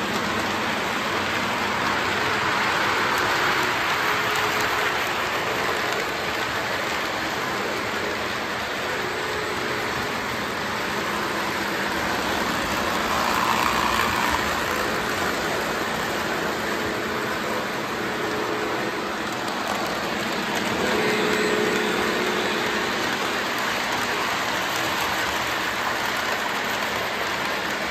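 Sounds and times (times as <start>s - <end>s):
model trains rolling on track: 0.0s - 27.9s.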